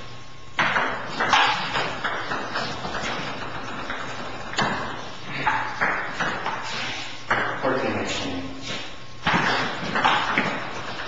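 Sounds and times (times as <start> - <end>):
table tennis ball hits and bounces: 0.6 - 7.7, 9.2 - 11.0.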